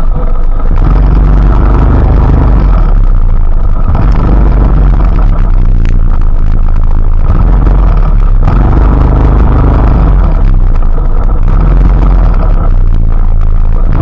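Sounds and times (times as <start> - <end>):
deep low rumble: 0.0 - 14.0
rain falling: 0.4 - 14.0.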